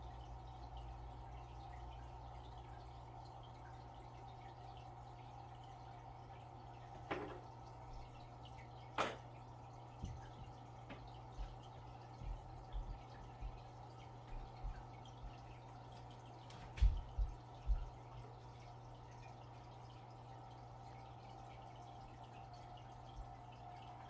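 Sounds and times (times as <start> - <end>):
faint rain dripping: 0.0 - 24.0.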